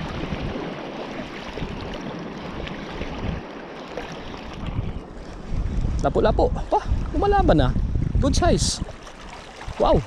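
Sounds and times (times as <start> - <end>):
rushing wind: 0.0 - 10.0
sea waves: 0.0 - 10.0
wind buffeting microphone: 0.0 - 10.0.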